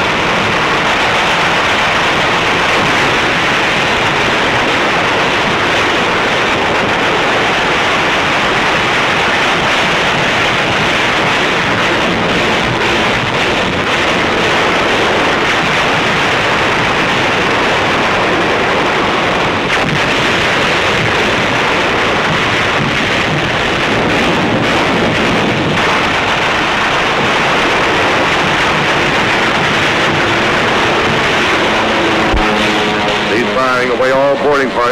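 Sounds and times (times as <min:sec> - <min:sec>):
muffled naval gunfire roar: 0:00.0 - 0:34.9.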